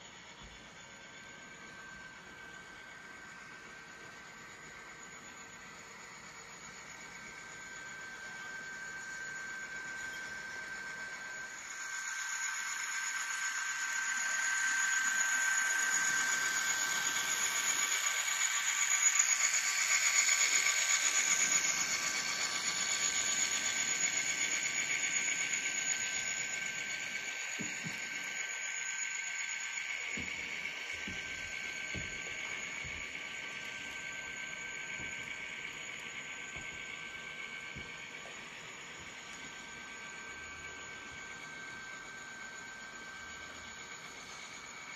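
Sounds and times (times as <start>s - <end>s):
model locomotive diesel engine sound: 0.0s - 44.9s.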